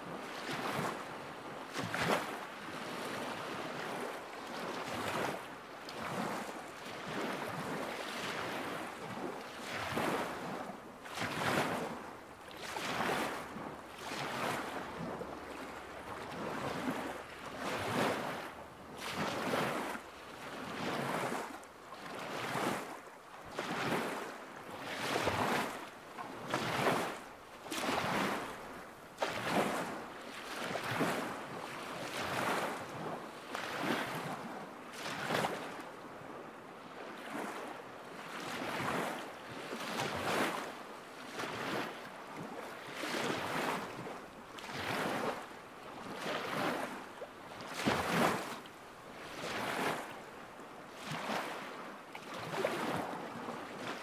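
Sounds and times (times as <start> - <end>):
waves lapping at shore: 0.0 - 54.0.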